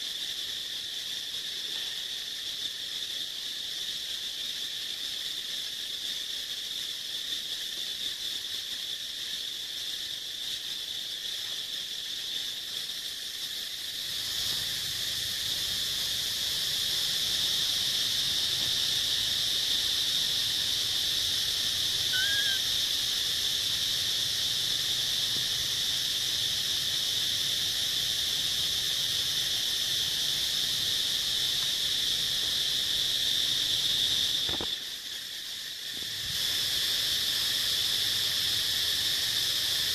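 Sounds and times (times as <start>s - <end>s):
insect chirp: 0.0s - 39.9s
insect chorus drone: 0.0s - 39.9s.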